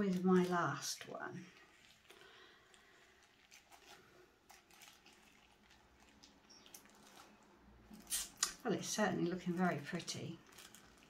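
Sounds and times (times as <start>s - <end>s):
plastic wrap peeled off wet paint: 0.0s - 11.0s.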